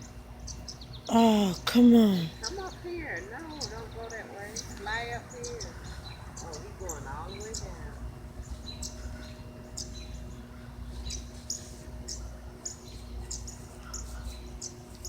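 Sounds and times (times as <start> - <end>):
songbirds chip calls: 2.3 - 15.0.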